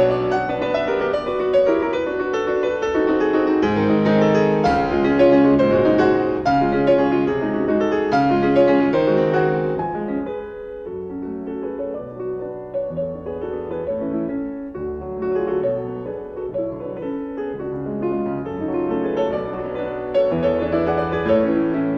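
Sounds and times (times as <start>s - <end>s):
piano music: 0.0s - 21.9s.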